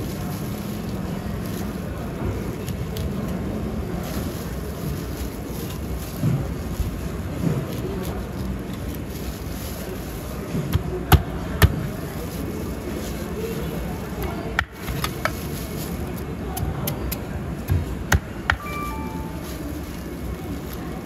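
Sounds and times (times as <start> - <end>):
market din: 0.0 - 21.0.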